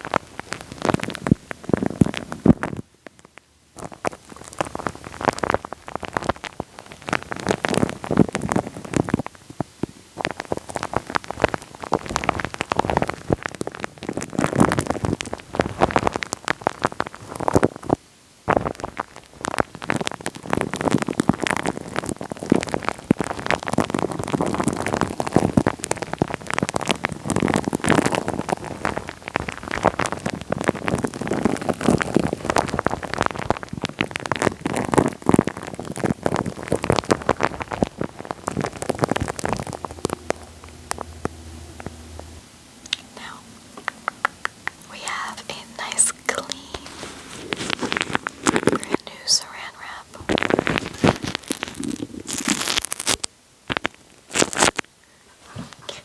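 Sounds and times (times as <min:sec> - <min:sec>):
wet crackling on a microphone: 0:00.0 - 0:56.0.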